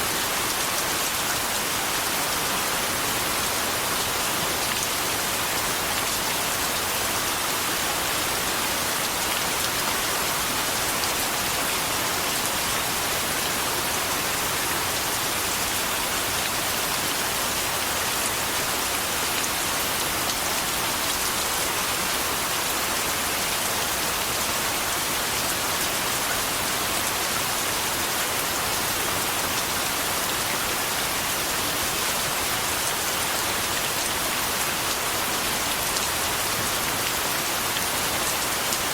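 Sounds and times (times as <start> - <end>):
rain pattering on a surface: 0.1 - 38.9.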